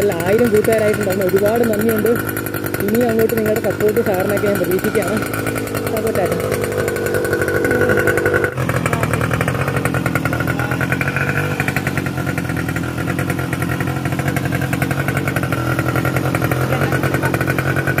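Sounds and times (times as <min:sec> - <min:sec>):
small motorbike engine running: 0:00.0 - 0:18.0.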